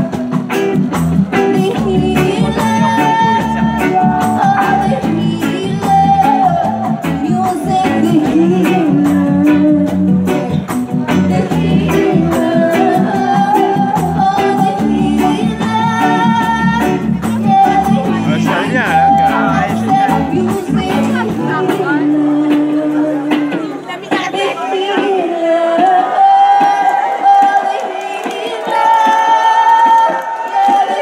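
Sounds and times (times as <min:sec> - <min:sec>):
reggae band playing: 0:00.0 - 0:31.0
woman singing: 0:01.3 - 0:31.0.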